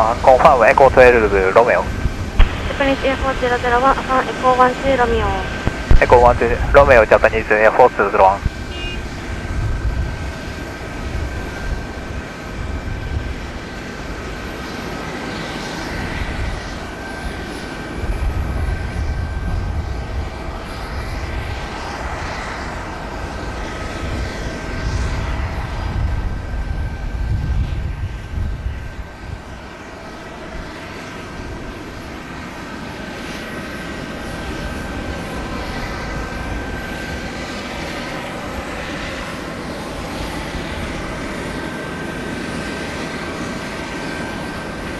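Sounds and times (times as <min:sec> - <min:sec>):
jet engine low rumble: 0:00.0 - 0:44.9
jet engine whine: 0:00.0 - 0:44.9.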